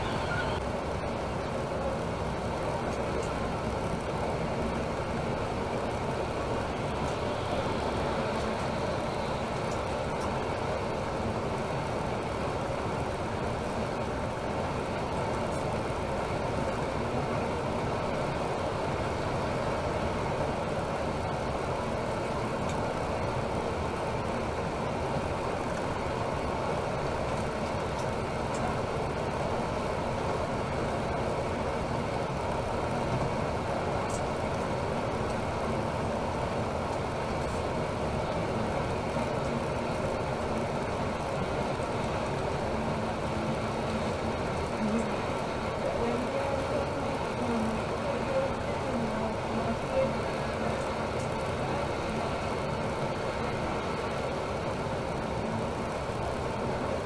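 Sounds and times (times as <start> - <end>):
coach engine and road noise: 0.0 - 57.0.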